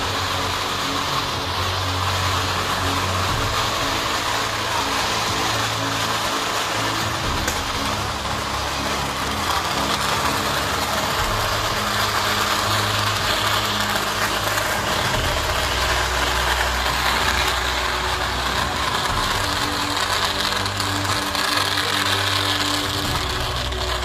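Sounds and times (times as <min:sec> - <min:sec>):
firecrackers crackling: 0:00.0 - 0:24.0
large crowd noise: 0:00.0 - 0:24.0
low droning tones: 0:00.0 - 0:24.0.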